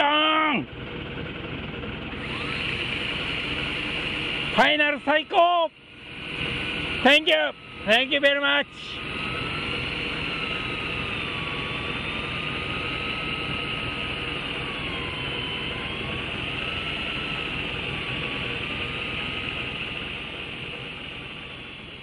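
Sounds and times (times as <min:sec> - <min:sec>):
electric fishing reel whine: 0:00.0 - 0:22.0.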